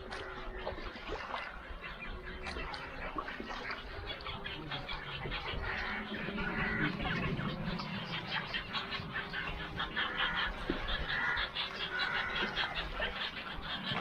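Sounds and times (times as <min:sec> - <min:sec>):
water birds calling: 0:00.0 - 0:14.0.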